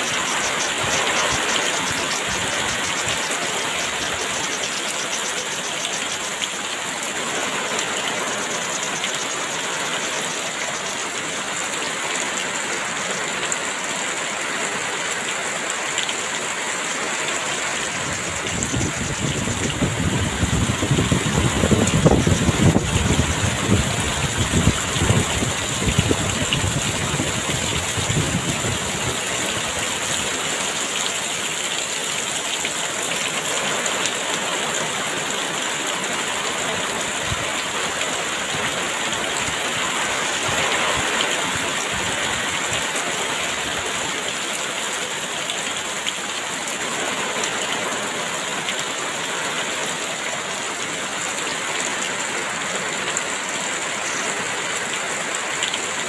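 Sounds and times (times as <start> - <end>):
heavy rain pouring: 0.0 - 34.0, 36.8 - 56.0.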